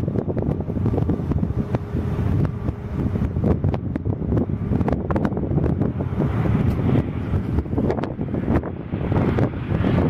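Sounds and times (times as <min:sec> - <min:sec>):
jet engines rumbling: 0:00.0 - 0:10.0
wind buffeting microphone: 0:00.0 - 0:10.0.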